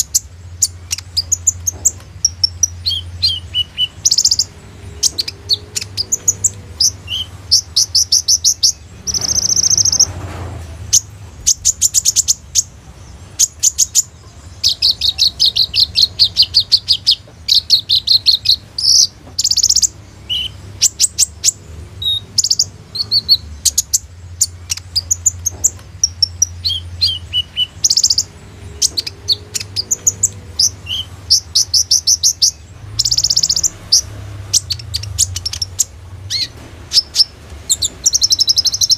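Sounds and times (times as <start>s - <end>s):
bird trills and chirps: 0.0s - 38.9s.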